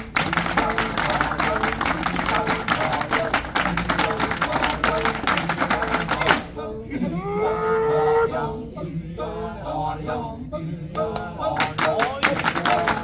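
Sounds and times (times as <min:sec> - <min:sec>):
male voices chanting rapidly: 0:00.0 - 0:13.0
male voices singing held notes: 0:00.0 - 0:13.0.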